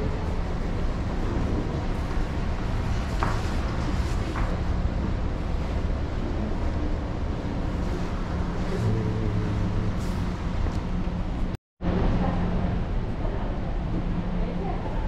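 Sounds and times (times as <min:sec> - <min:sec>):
ship machinery rumble and hum: 0:00.0 - 0:15.0.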